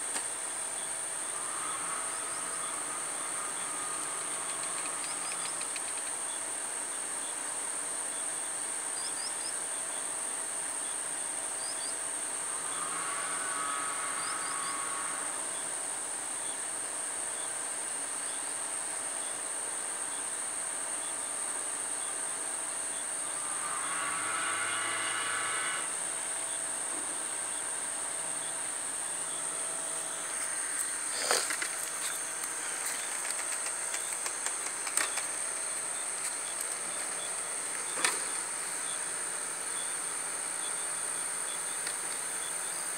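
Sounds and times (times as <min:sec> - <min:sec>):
insects trilling: 0:00.0 - 0:42.9
mechanical hum: 0:00.0 - 0:42.9.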